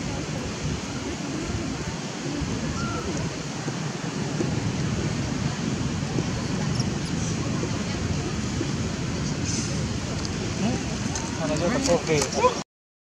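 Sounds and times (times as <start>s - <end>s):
faint distant voices: 0.0s - 12.6s
wind on microphone: 0.0s - 12.6s.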